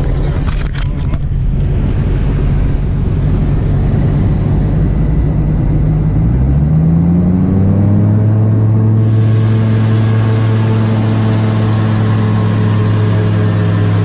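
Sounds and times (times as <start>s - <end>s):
crane power unit humming and revving: 0.0s - 14.0s.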